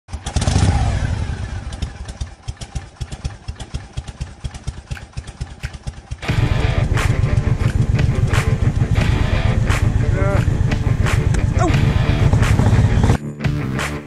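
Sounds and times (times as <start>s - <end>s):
motorcycle engine revving and idling: 0.1s - 13.2s.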